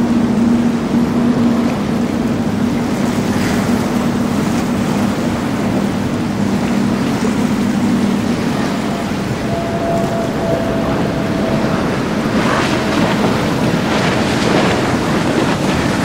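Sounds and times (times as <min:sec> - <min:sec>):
outboard engines droning: 0:00.0 - 0:16.0
rushing water: 0:00.0 - 0:16.0.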